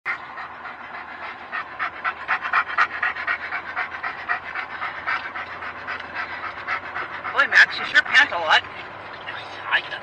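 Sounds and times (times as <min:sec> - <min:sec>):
dog panting rapidly: 0:00.1 - 0:08.8
faint low car hum: 0:00.1 - 0:10.0.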